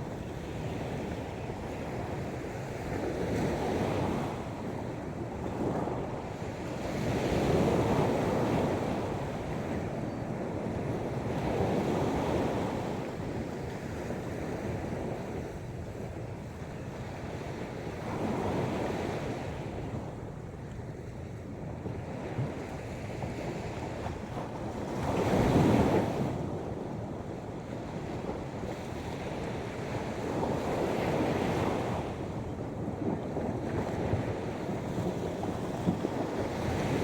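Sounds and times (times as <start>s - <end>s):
wind on microphone: 0.0s - 37.0s.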